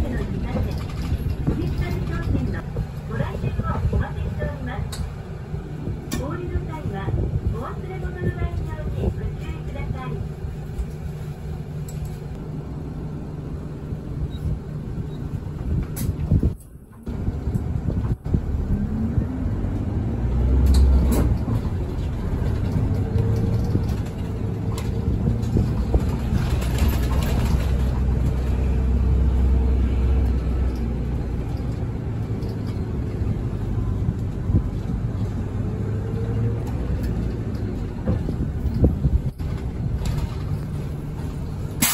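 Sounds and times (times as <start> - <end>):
bus engine drone from inside: 0.0 - 41.9.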